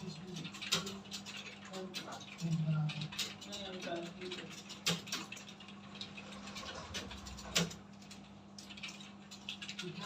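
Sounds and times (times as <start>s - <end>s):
computer keyboards clicking: 0.0s - 10.0s.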